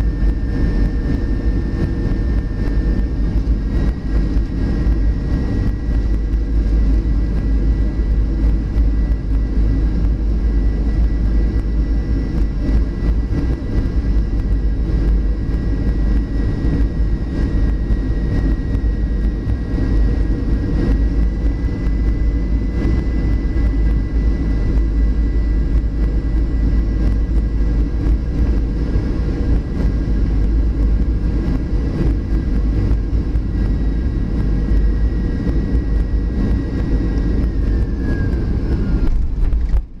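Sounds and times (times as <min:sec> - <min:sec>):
airliner cabin engine rush: 0:00.0 - 0:40.0
high-pitched whine: 0:00.0 - 0:40.0.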